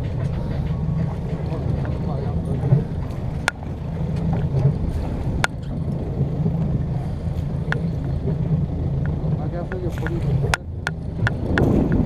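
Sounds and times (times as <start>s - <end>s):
boat engine rumbling: 0.0s - 12.0s
sea noise: 0.0s - 12.0s
wind: 0.0s - 12.0s.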